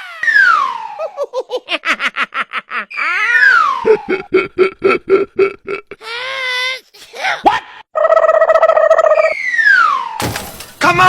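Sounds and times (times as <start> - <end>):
high-pitched cartoon laughter: 0.0 - 9.2.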